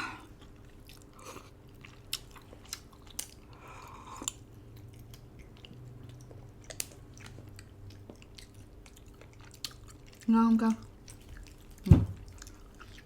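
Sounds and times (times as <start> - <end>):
person chewing food: 0.2 - 13.0.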